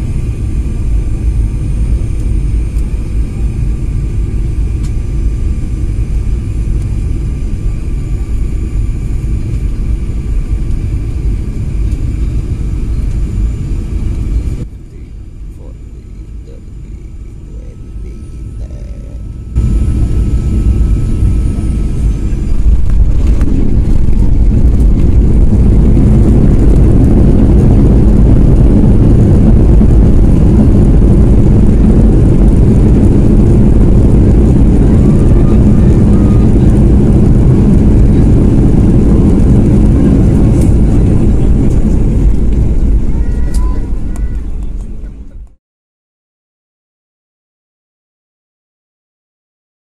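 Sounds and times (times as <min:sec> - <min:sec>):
jet airliner landing roar: 0:00.0 - 0:45.5.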